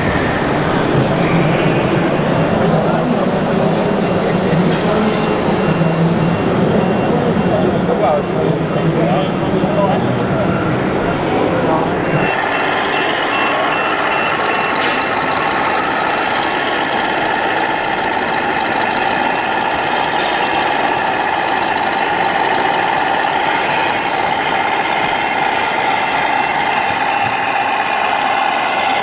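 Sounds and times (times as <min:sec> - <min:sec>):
engine-like drone: 0:00.0 - 0:29.0
reversing beeper: 0:00.9 - 0:29.0.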